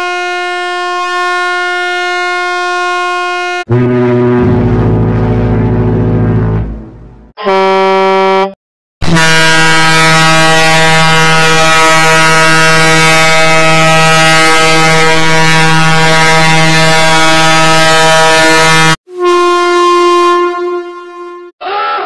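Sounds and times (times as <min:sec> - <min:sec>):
higher horn tone: 0:00.0 - 0:21.5
long low horn blast: 0:00.0 - 0:21.5.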